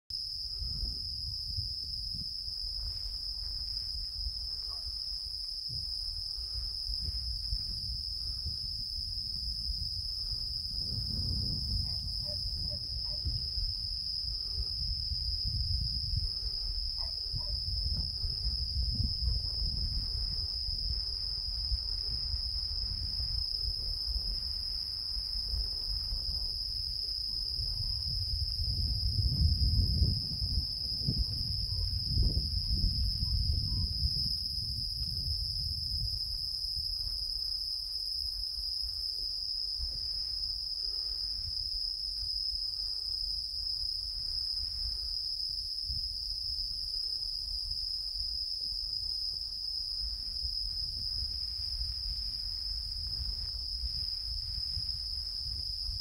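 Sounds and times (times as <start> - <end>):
insects trilling: 0.1 - 56.0
wind rumbling on microphone: 0.1 - 56.0.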